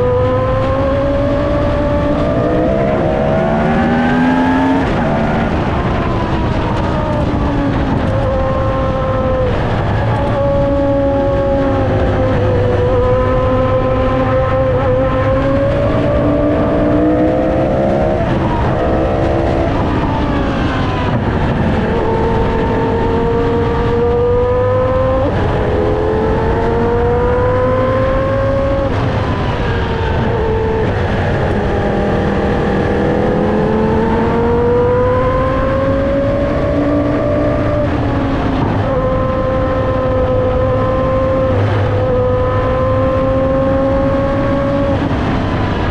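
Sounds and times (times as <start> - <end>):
racing car engine revving: 0.0 - 45.9.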